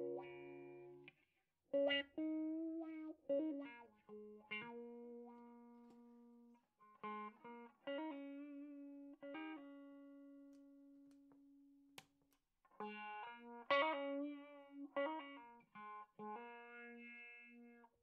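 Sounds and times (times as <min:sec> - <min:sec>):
electric guitar notes: 0:00.0 - 0:01.1, 0:01.8 - 0:11.0, 0:12.8 - 0:17.9.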